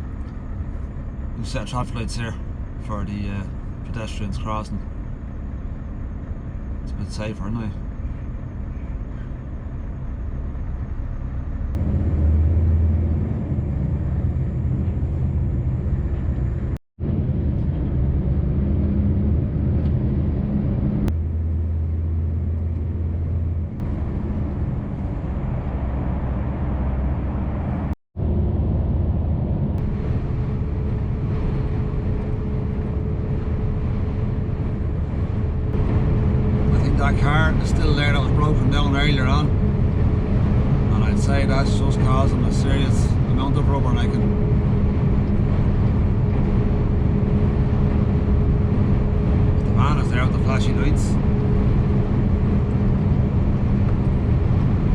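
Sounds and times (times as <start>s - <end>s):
truck engine drone: 0.0s - 54.9s.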